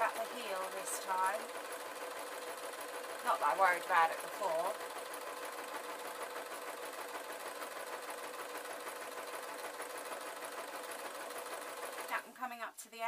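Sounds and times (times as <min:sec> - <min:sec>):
sewing machine stitching: 0:00.0 - 0:12.2.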